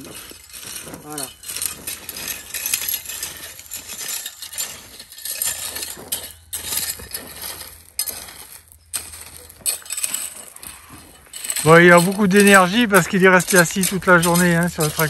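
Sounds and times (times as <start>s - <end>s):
rake scraping through gravel: 0.0s - 15.0s.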